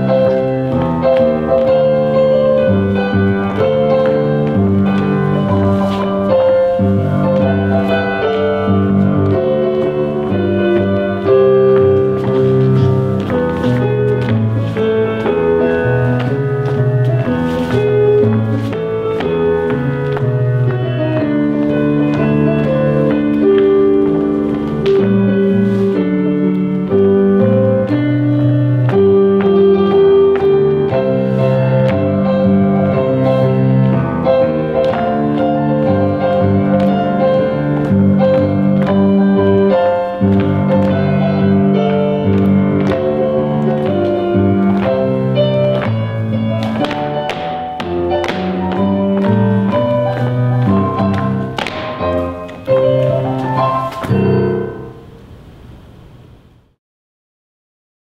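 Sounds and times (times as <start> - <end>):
instrumental music with held chords: 0.0 - 55.3.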